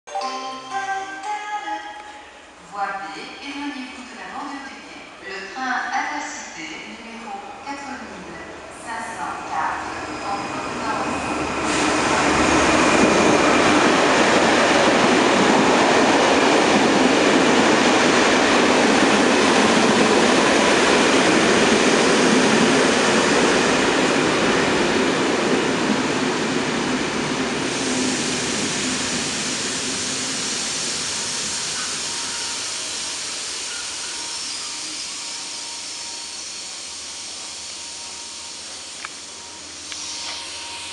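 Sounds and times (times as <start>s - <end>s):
train coaches rolling past: 3.7s - 40.9s
diesel locomotives passing: 7.4s - 40.9s.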